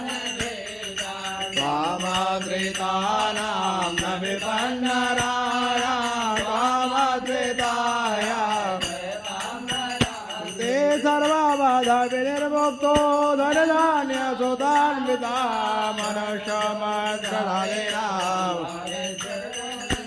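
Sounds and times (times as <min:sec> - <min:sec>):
person chanting melodically: 0:00.0 - 0:20.0.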